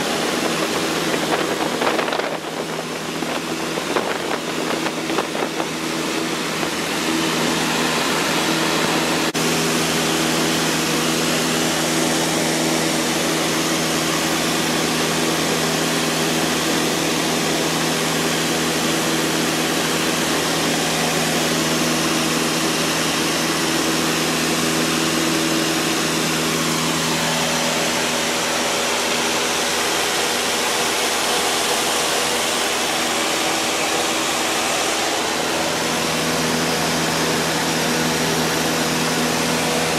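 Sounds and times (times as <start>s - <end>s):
rushing airflow: 0.0s - 24.5s, 25.5s - 39.9s
airplane engine drone in cabin: 0.0s - 39.9s.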